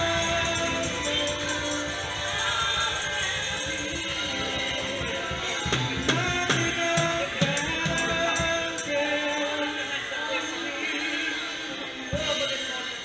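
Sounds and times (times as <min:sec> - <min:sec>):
band playing worship music: 0:00.0 - 0:13.0
congregation singing: 0:00.0 - 0:13.0.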